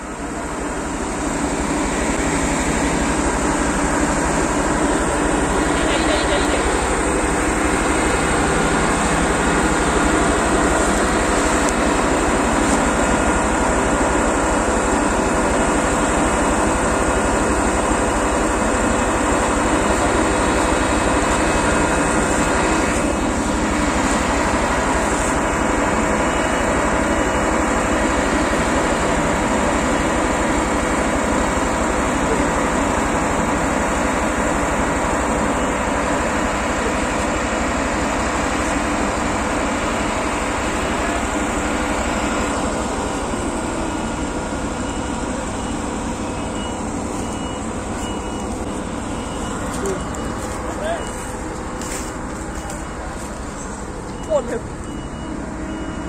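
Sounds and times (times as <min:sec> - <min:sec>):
combine harvester engine high revs: 0:00.0 - 0:56.0
tractor engine working under load: 0:00.0 - 0:56.0.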